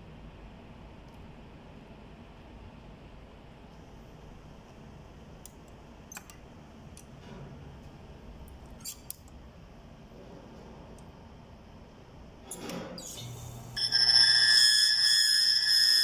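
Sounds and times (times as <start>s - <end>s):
low steady background noise: 0.0s - 13.8s.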